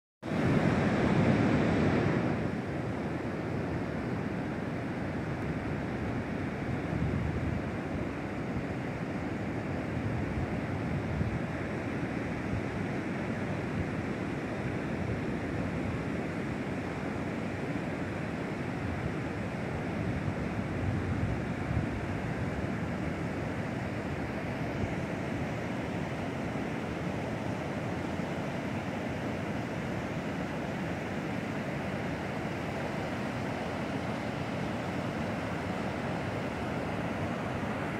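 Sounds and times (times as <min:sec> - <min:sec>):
ocean surf: 0:00.2 - 0:37.9.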